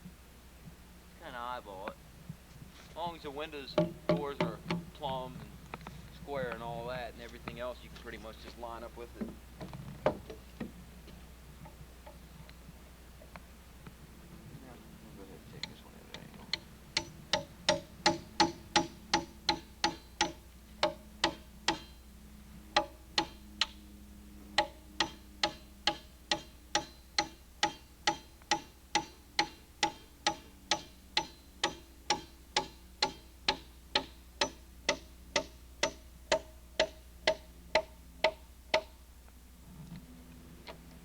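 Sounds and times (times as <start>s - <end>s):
hammer blows on metal: 2.7s - 12.3s, 14.4s - 39.0s.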